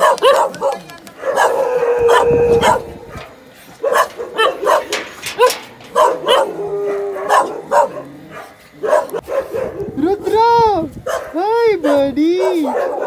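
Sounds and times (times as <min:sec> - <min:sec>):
dogs barking and yipping: 0:00.0 - 0:10.4, 0:11.0 - 0:13.0.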